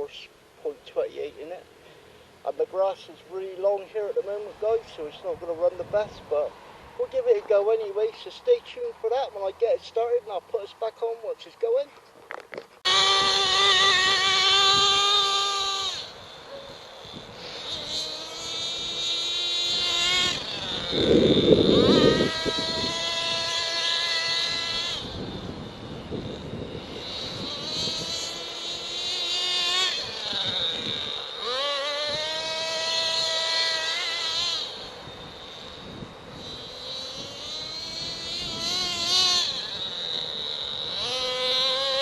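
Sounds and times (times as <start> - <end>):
nitro engine buzzing whine: 0.0 - 42.0.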